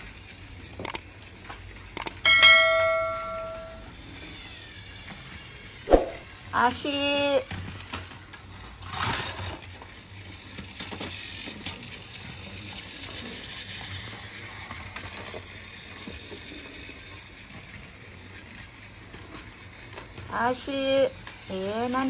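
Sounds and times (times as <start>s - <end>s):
toy train whirring rattle: 0.0s - 22.0s.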